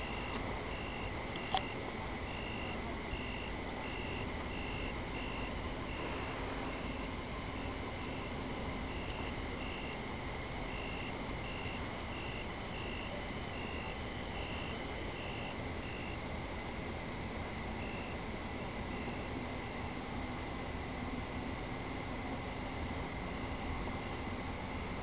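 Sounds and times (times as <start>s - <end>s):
crickets trilling: 0.0s - 25.0s
faint low hum: 0.0s - 25.0s
insect chirping: 0.0s - 25.0s.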